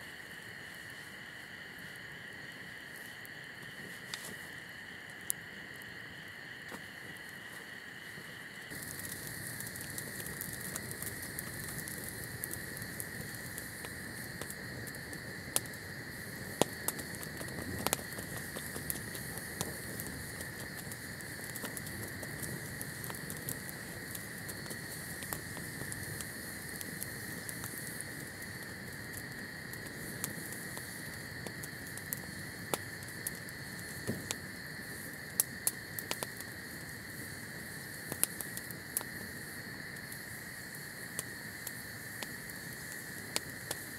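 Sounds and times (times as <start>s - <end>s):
campfire crackling: 0.0s - 43.9s
fire popping: 0.0s - 43.9s.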